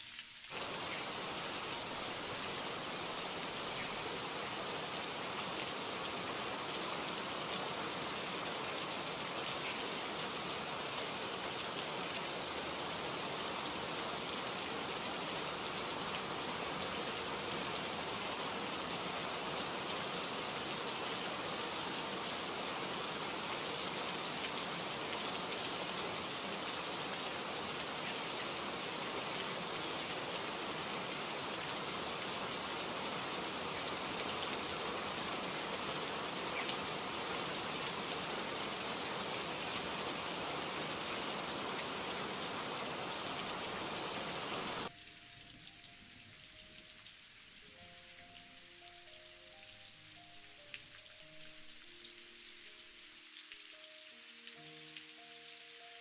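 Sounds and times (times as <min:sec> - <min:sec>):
rain falling on wet surface: 0:00.0 - 0:56.0.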